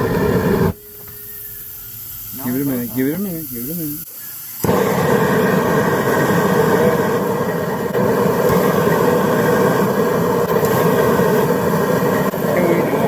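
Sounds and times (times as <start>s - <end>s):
gas flame rushing: 0.0s - 13.0s
propane burner lighting: 0.0s - 13.0s.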